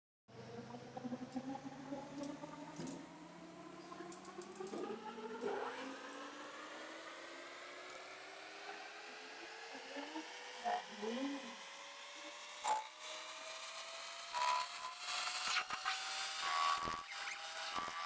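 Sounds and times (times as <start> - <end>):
lathe motor whirring: 0.9 - 18.0.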